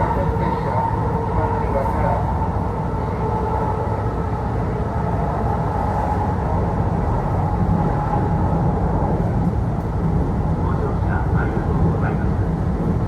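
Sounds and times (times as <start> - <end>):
train hum: 0.0 - 13.0
train wheels rumbling on rails: 0.0 - 13.0.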